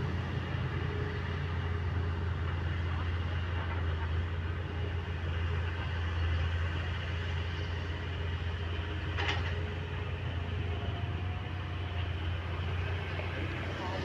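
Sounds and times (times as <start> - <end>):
heavy machinery diesel drone: 0.0 - 14.0.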